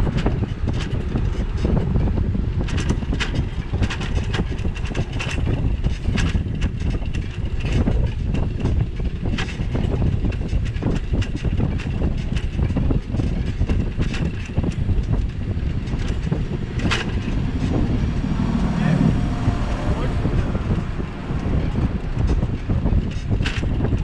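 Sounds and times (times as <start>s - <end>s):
clicks and rattles: 0.0s - 24.0s
wind buffeting microphone: 0.0s - 24.0s.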